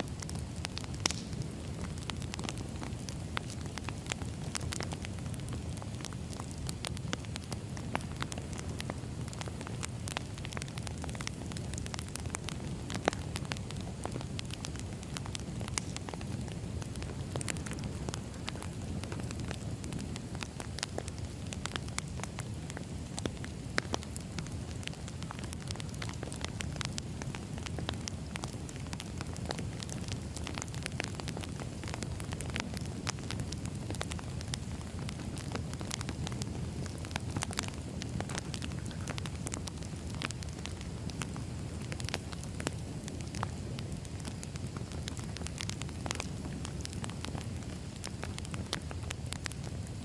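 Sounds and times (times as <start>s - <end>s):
flames rumbling: 0.0s - 50.0s
wood crackling and popping: 0.0s - 50.0s.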